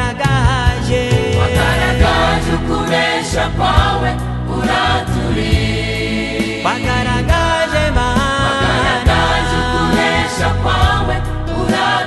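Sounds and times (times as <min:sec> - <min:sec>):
band with steady beat: 0:00.0 - 0:12.0
choir singing: 0:01.1 - 0:12.0.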